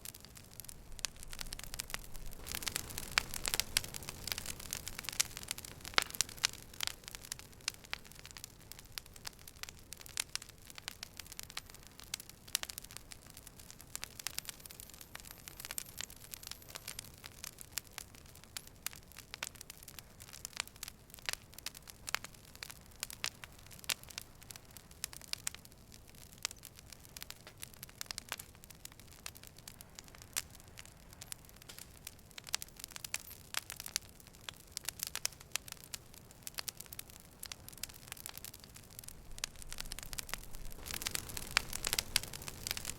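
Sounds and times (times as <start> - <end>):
campfire crackling and popping: 0.0 - 42.9
soft steady fire hiss: 0.0 - 42.9.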